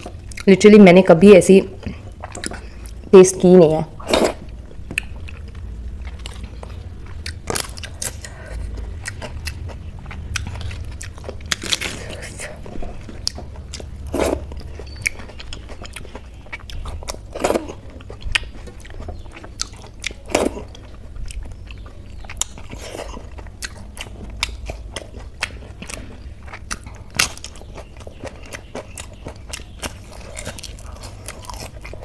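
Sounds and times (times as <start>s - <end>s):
chewing and wet mouth smacks: 1.8s - 3.0s, 4.2s - 12.0s, 12.9s - 32.0s.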